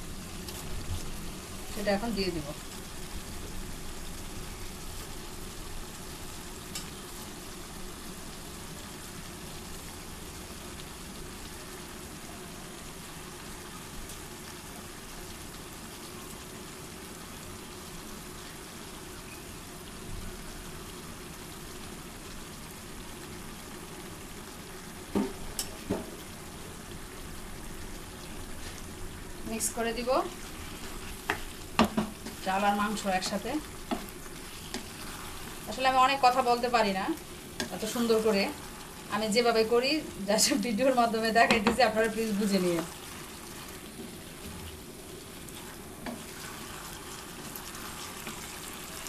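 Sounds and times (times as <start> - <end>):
food sizzling in a pot: 0.0 - 49.0.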